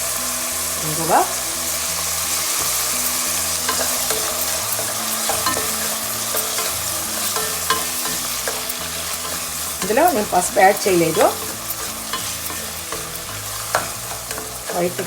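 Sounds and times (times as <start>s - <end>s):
food sizzling in hot oil: 0.0s - 15.0s
spoon scraping a pan: 0.0s - 15.0s.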